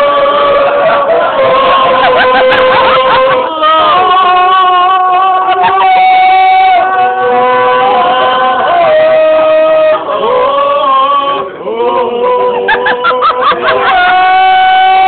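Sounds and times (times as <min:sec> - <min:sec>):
men yodelling: 0:00.0 - 0:15.0.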